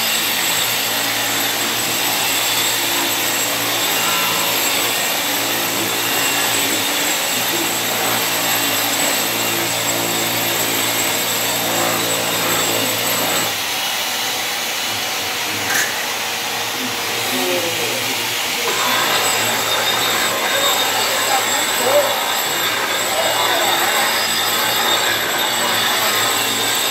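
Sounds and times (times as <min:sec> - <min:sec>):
power tool motor whirring: 0:00.0 - 0:13.6, 0:18.4 - 0:26.9.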